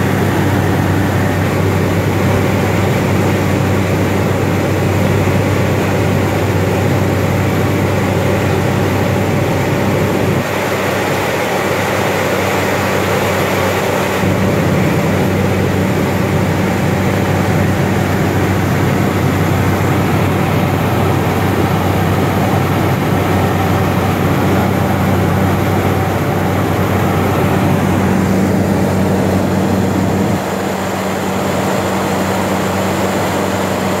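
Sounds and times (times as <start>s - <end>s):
low propeller hum: 0.0s - 34.0s
turboprop engine drone: 0.0s - 34.0s.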